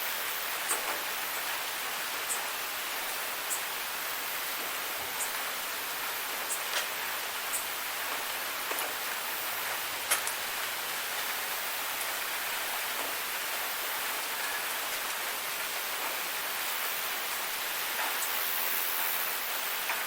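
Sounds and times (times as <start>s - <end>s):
rain drops ticking: 0.0s - 20.0s
steady rain hissing: 0.0s - 20.0s.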